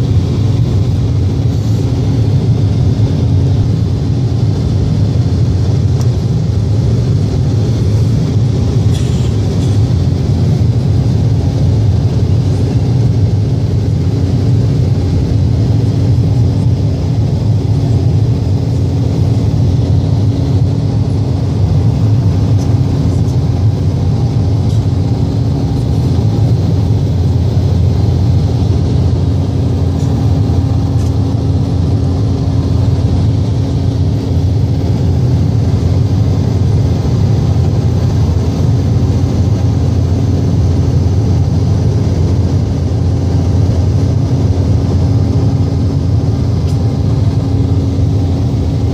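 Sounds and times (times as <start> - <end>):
jet engines low rumble: 0.0 - 48.9
steady hum: 0.0 - 48.9.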